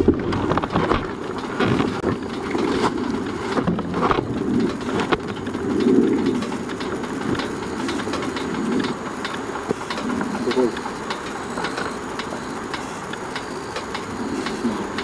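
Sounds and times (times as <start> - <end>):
motorcycle engine rumbling: 0.0 - 15.0
wind and road noise: 0.0 - 15.0.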